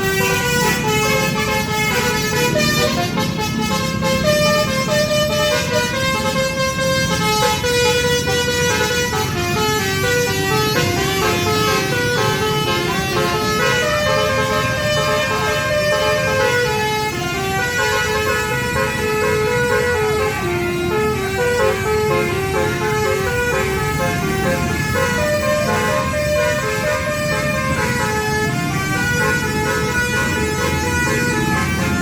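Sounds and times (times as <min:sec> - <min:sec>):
musical air horn playing a tune: 0:00.0 - 0:32.0.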